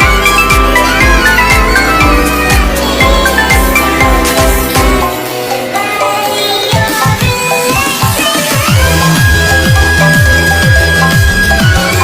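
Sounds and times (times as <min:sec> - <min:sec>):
kick drum beat: 0:00.0 - 0:05.1, 0:06.7 - 0:12.0.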